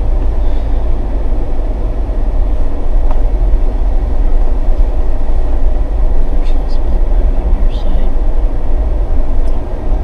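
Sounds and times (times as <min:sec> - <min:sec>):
vehicle driving on rough trail: 0:00.0 - 0:10.0.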